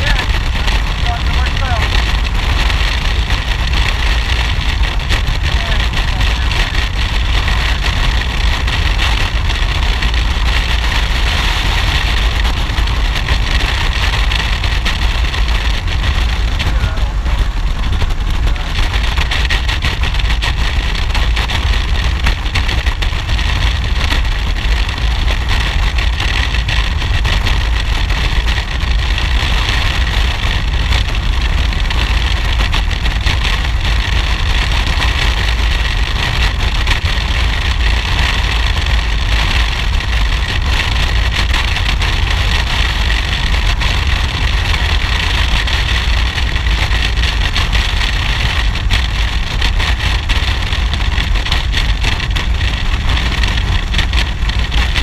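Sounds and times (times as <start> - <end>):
motorcycle engine drone: 0.0 - 55.0
wind buffeting microphone: 0.0 - 55.0.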